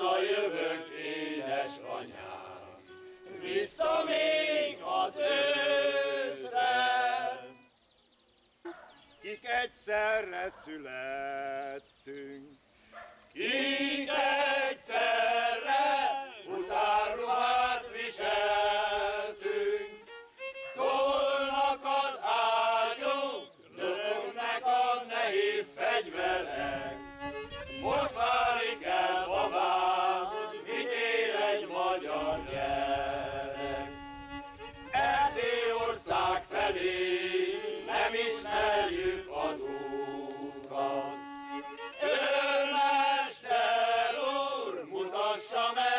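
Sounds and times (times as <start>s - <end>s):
men's choir singing: 0.0s - 7.6s, 13.4s - 20.0s, 20.8s - 34.0s, 34.9s - 45.9s
violin: 0.0s - 7.9s, 13.6s - 45.9s.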